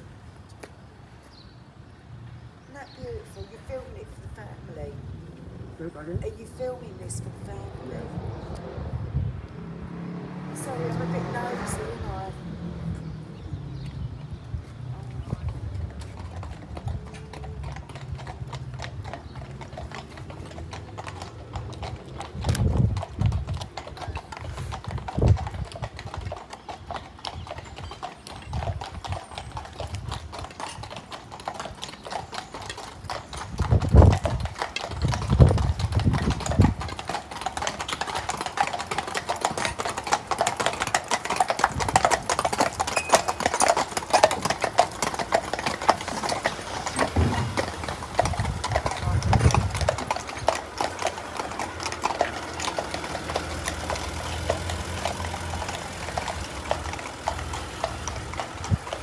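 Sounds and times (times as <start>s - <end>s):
horse hooves on tarmac: 2.6s - 59.0s.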